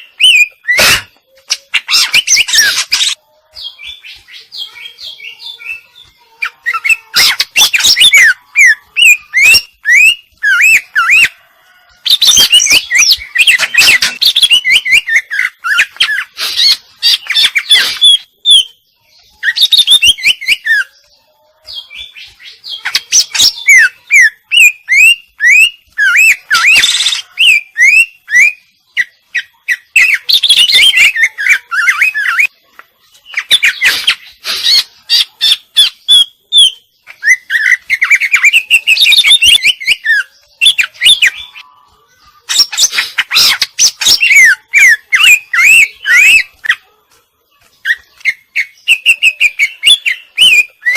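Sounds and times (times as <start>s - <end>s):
bird singing chirps and whistles: 0.0s - 46.8s, 47.6s - 50.9s.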